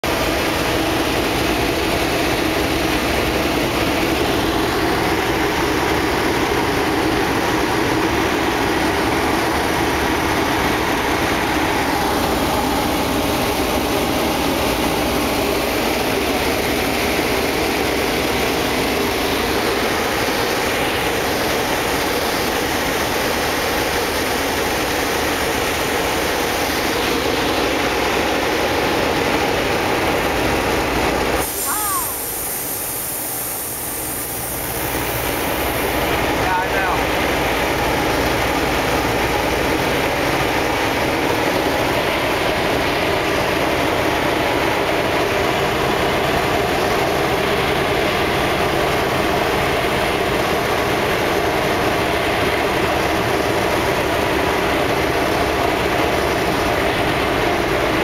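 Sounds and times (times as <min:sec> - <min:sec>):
rush of slipstream: 0:00.1 - 0:58.0.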